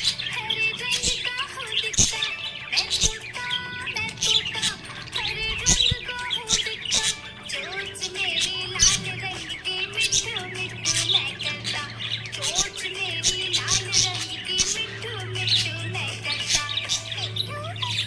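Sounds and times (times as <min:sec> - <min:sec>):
budgerigar chirping and warbling: 0:00.0 - 0:18.0.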